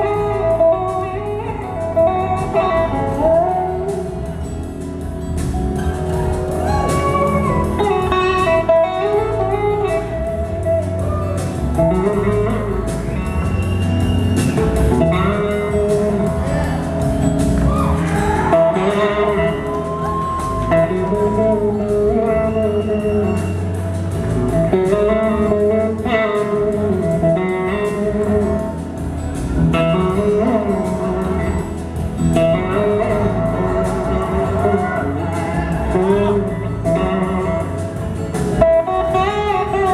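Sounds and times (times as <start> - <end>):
electric guitar solo: 0.0 - 4.4, 5.1 - 39.9
bass: 0.0 - 39.9
drums: 0.0 - 39.9.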